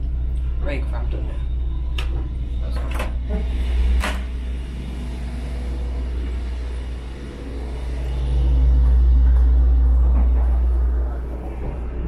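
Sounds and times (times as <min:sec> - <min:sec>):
train diesel engine drone: 0:00.0 - 0:12.0.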